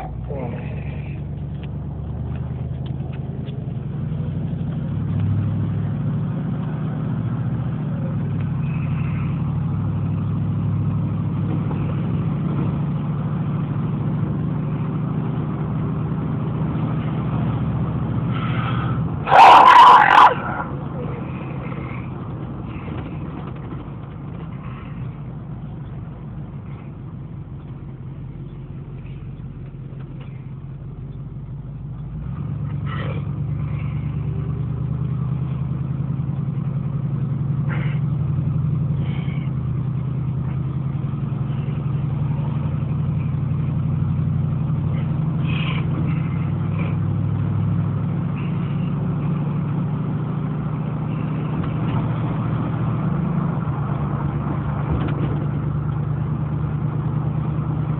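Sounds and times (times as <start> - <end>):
engine humming: 0.0 - 57.9.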